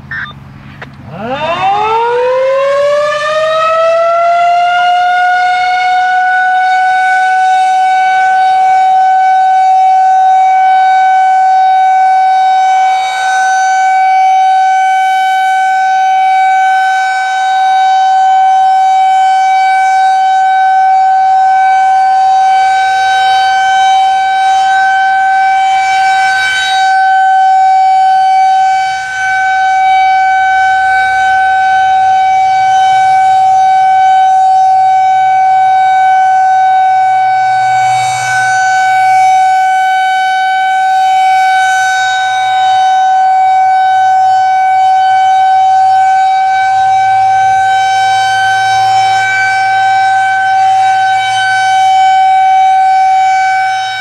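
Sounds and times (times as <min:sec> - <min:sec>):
electronic siren steady tone: 0:00.0 - 0:54.0.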